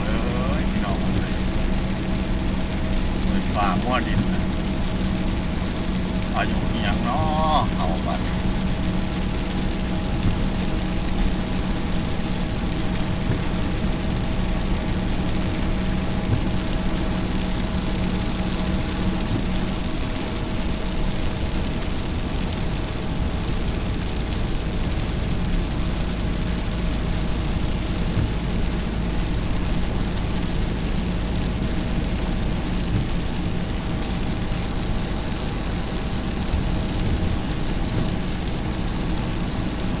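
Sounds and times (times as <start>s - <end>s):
constant rushing noise: 0.0s - 40.0s
vehicle engine running: 0.0s - 40.0s.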